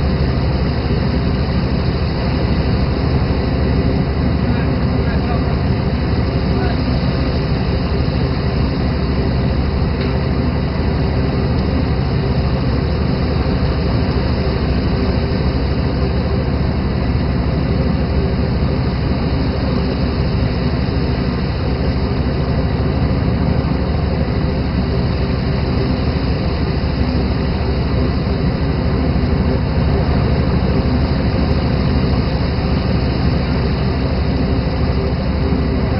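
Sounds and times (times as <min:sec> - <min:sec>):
boat engine running: 0:00.0 - 0:35.9
water rushing around hull: 0:00.0 - 0:35.9.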